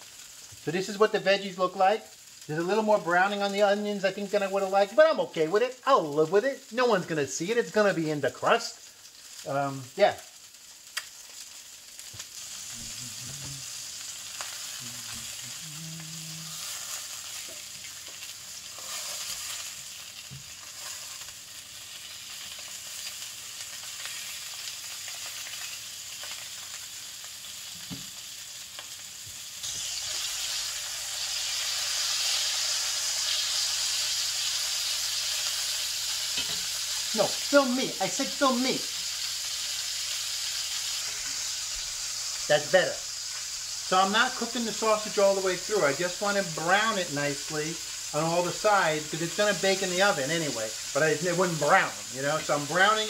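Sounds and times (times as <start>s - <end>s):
sausages sizzling in oil: 0.0s - 53.0s.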